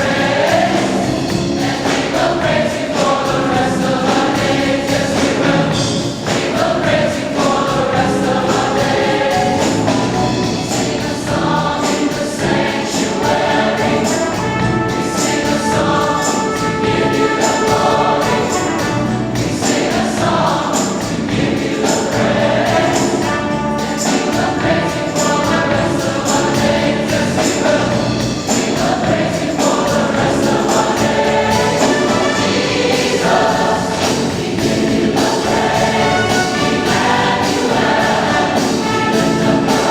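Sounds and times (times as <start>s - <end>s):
choir singing gospel music: 0.0s - 39.9s
instrumental accompaniment: 0.0s - 39.9s.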